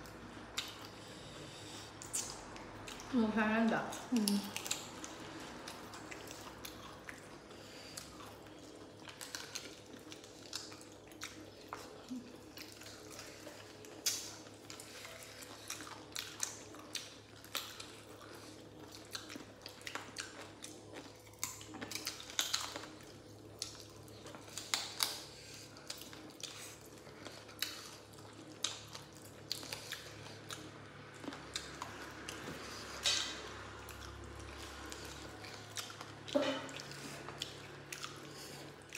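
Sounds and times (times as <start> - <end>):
people chewing and lip smacking: 0.0 - 38.9.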